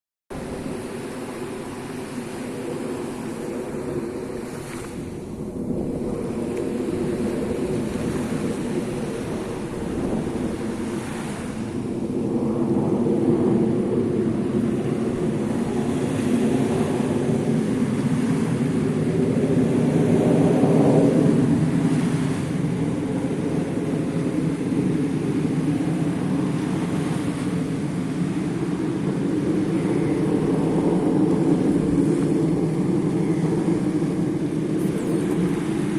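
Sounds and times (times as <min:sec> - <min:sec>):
airplane engines droning: 0:00.3 - 0:35.9
surf washing: 0:00.3 - 0:35.9.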